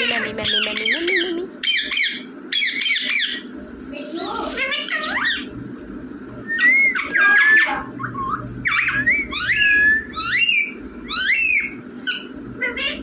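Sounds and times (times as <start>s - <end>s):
parrot squawks: 0.5s - 3.5s, 4.2s - 5.5s, 6.6s - 13.0s
parrot whistling calls: 0.5s - 3.5s, 4.4s - 5.5s, 6.4s - 13.0s.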